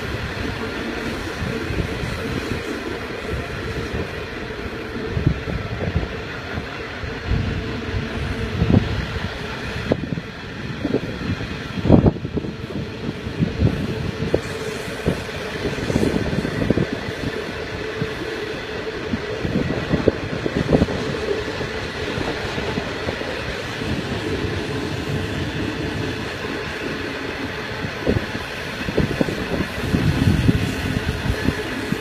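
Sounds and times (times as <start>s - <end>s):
train wagons rumbling on rails: 0.0s - 32.0s.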